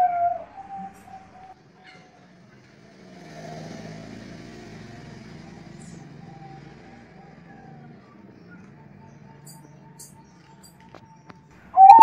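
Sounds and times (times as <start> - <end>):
distant vehicle engine hum: 0.0 - 11.9.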